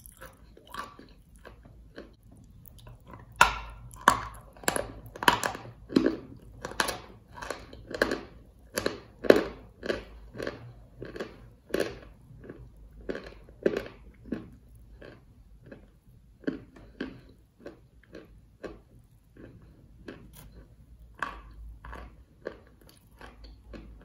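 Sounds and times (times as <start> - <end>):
chewing crunchy chalk: 0.0 - 18.8, 19.4 - 24.0.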